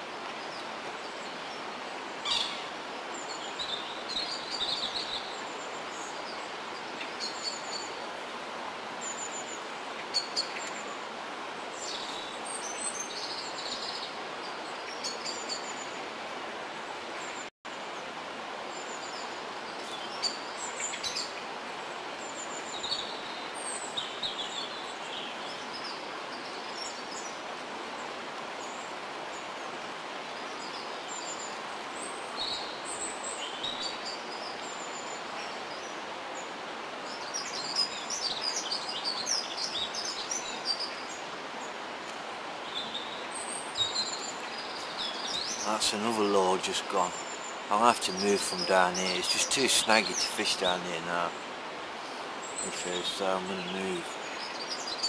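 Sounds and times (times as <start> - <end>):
small birds chirping: 0.3 - 8.1, 18.7 - 55.0.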